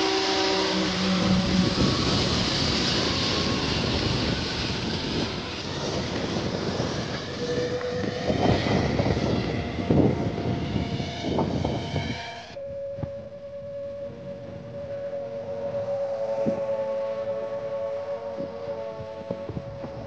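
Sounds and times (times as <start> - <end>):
faint high whine: 0.0 - 20.0
propeller engine droning: 0.0 - 20.0.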